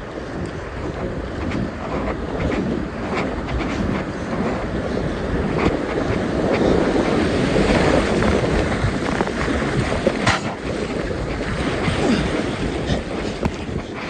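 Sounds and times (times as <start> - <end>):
wind buffeting microphone: 0.0 - 14.0
whitewater rushing and splashing: 0.1 - 14.0.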